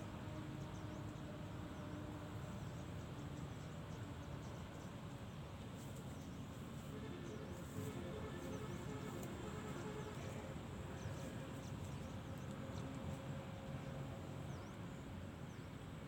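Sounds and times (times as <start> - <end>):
faint distant music: 0.0 - 16.0
small birds chirping: 0.5 - 16.0.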